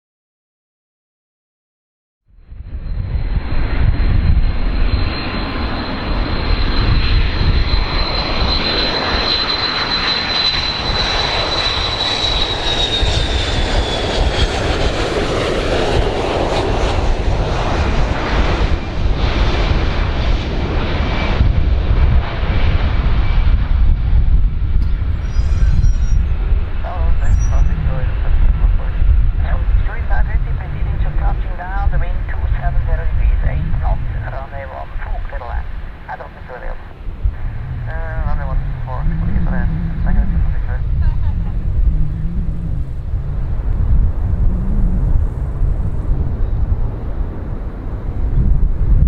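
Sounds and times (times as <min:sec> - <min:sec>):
airplane engines rumbling: 0:02.3 - 0:49.0
high engine whine: 0:02.4 - 0:49.0.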